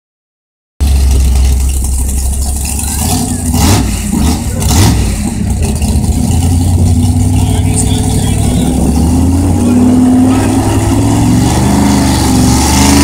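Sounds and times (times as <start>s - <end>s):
pickup truck engine revving: 0.8s - 13.0s.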